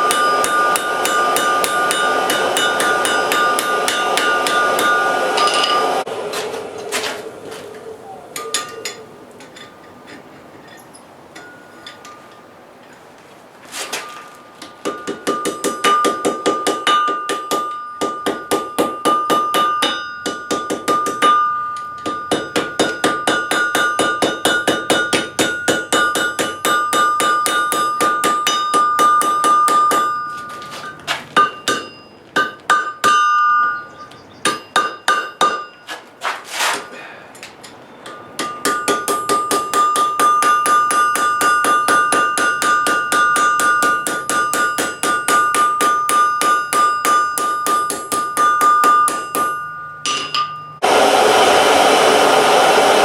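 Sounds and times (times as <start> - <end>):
anvil ringing: 0.0 - 6.1, 8.4 - 9.9, 10.6 - 12.5, 14.0 - 36.0, 38.0 - 50.8
hammer striking metal on anvil: 0.0 - 7.1, 8.4 - 12.4, 14.0 - 36.0, 37.6 - 50.9.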